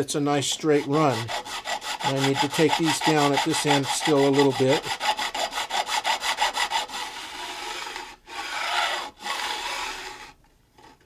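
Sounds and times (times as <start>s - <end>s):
hand file filing metal: 0.4s - 10.4s.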